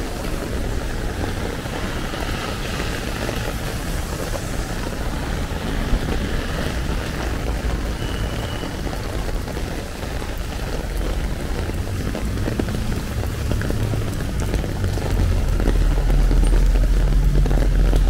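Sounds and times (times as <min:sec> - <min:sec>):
heavy rain on an umbrella: 0:00.0 - 0:18.0.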